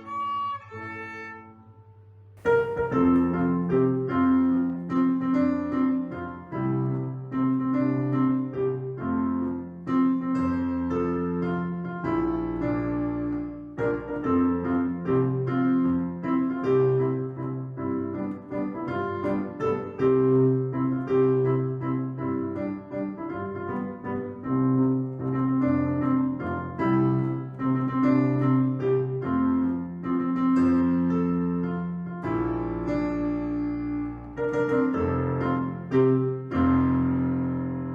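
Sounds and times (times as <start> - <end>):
piano music: 2.4 - 37.9.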